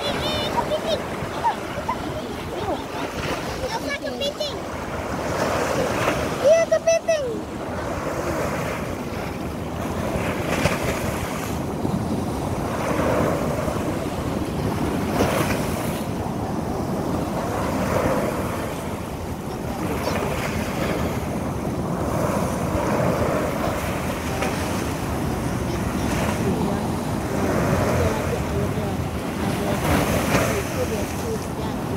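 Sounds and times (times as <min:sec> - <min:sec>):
waves washing onto sandy beach: 0:00.0 - 0:31.9.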